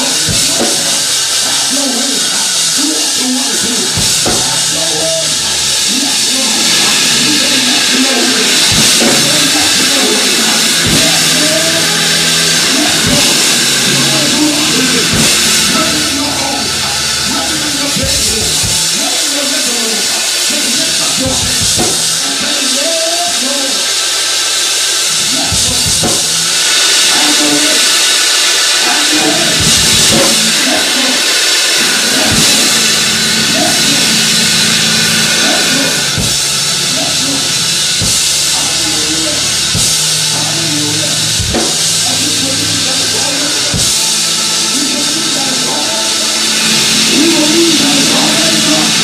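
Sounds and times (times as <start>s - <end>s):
held bass notes: 0.0s - 22.6s, 24.9s - 27.6s, 28.2s - 49.0s
drum kit: 0.0s - 49.0s
steady hiss: 0.0s - 49.0s.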